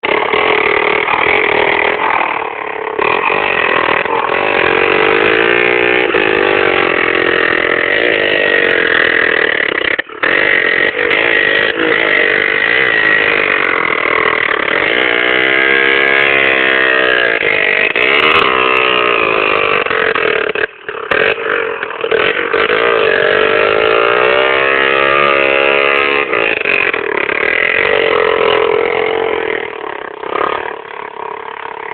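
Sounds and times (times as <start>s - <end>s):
motorcycle engines revving: 0.0s - 31.9s.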